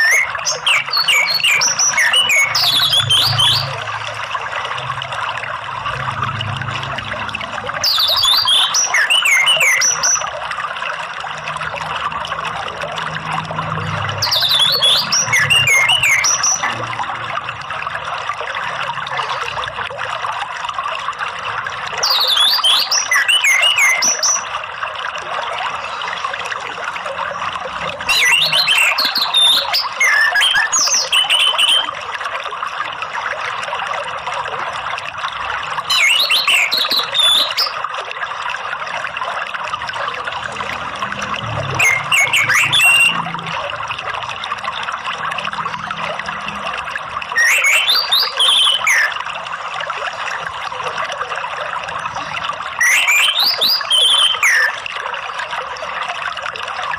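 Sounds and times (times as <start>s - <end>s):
flowing water: 0.0s - 56.9s.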